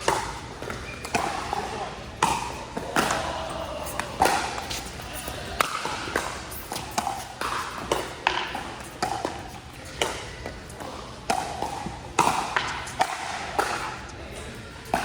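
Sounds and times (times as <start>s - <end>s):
faint background murmur: 0.0s - 15.0s.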